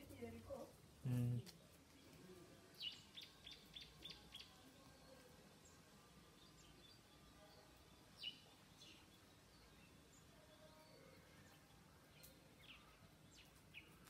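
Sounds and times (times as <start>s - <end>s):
faint high-pitched chirping: 0.0s - 14.0s.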